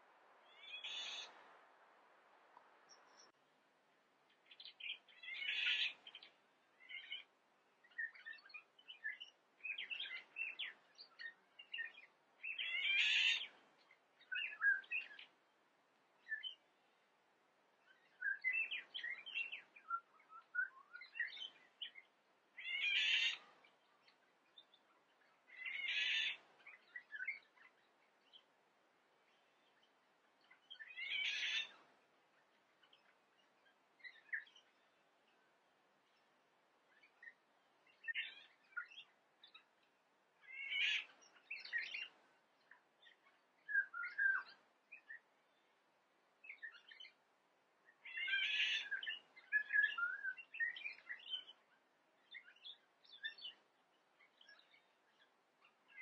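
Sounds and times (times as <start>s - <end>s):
songbirds singing: 0.0s - 56.0s
soft bird twittering: 0.4s - 1.4s, 4.4s - 15.4s, 17.8s - 28.5s, 29.2s - 35.5s, 36.9s - 45.8s, 47.8s - 56.0s.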